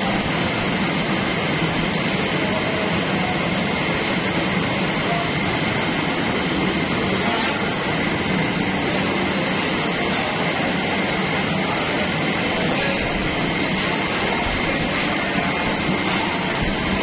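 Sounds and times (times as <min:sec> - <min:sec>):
roller machine running: 0:00.0 - 0:17.0
thin high whine: 0:00.0 - 0:17.0.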